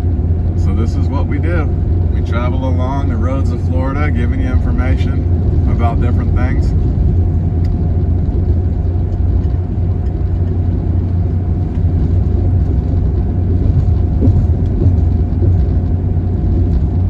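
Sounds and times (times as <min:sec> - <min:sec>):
faint steady hum: 0:00.0 - 0:17.0
road and engine rumble in cabin: 0:00.0 - 0:17.0.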